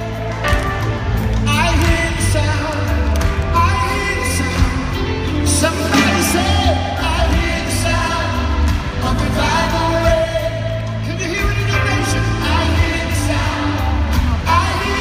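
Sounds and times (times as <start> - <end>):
live band with singing: 0.0 - 15.0
steady bass line: 0.0 - 15.0.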